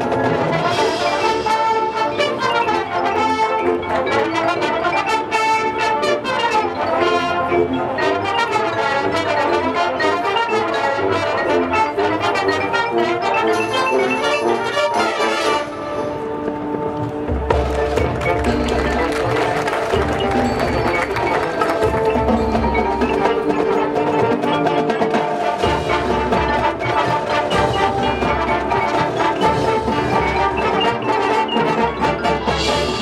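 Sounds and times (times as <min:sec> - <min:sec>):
brass playing fast passage: 0:00.0 - 0:33.0
marching band playing: 0:00.0 - 0:33.0.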